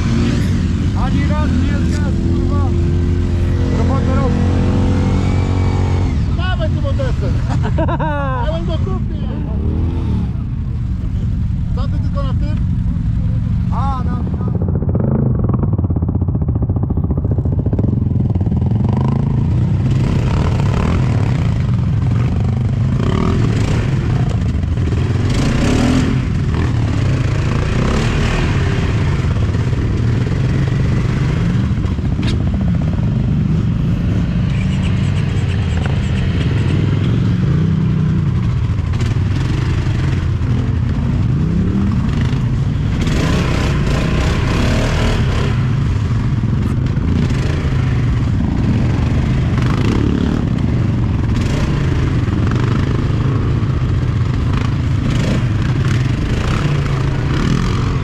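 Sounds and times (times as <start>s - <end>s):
quad bike engine revving: 0.0s - 10.7s, 13.7s - 58.0s.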